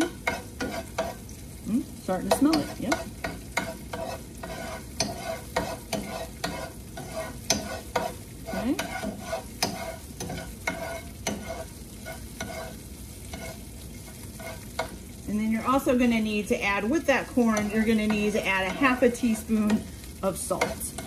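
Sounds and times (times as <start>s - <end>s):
metal spoon scraping skillet: 0.0s - 1.3s, 2.1s - 15.0s, 16.8s - 19.9s, 20.5s - 21.0s
pepper sizzling in oil: 0.0s - 21.0s.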